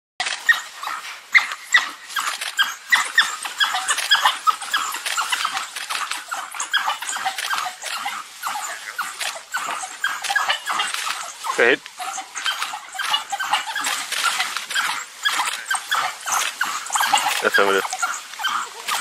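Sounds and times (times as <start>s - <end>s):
wild dogs twittering and squeaking: 0.2s - 19.0s.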